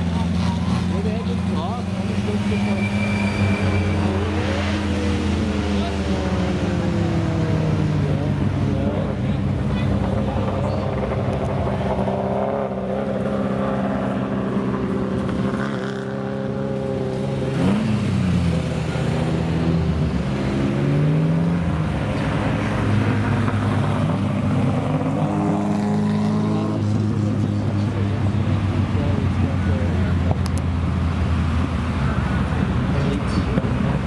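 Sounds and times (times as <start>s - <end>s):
racing car engine revving: 0.0s - 34.0s.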